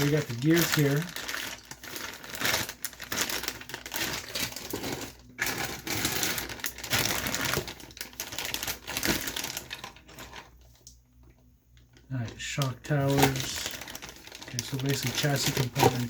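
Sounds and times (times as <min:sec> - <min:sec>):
small plastic parts rattling: 0:00.0 - 0:10.9, 0:12.2 - 0:16.0
plastic bags crinkling: 0:00.0 - 0:16.0.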